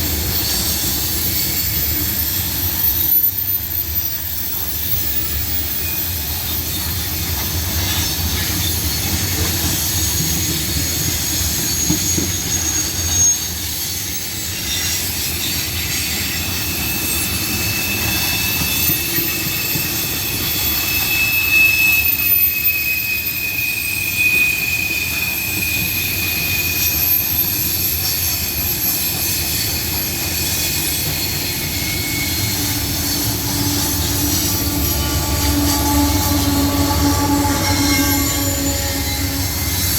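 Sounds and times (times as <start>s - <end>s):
high wheel squeals: 0.0s - 39.9s
train wheels rumbling on rails: 0.0s - 39.9s.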